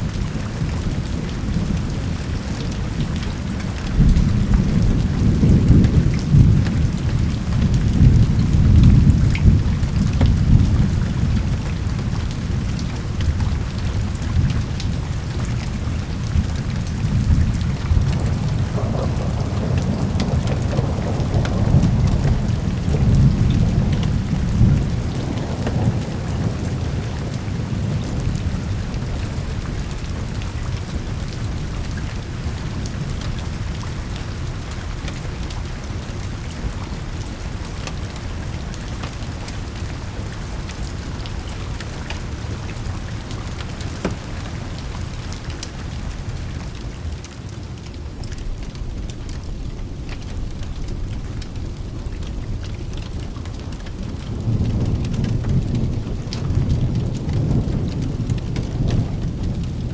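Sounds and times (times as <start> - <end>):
thunder rumbling: 0.0 - 47.1, 48.0 - 59.9
heavy rain: 0.0 - 59.9.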